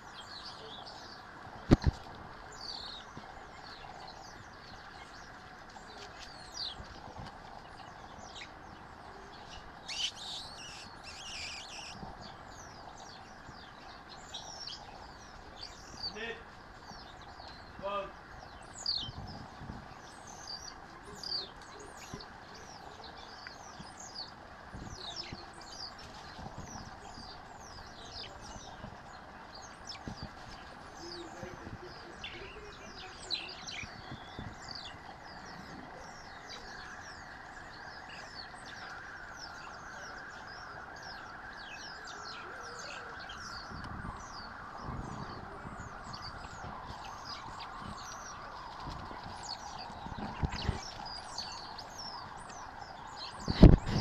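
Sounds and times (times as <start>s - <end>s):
background hum of bush: 0.0s - 54.0s.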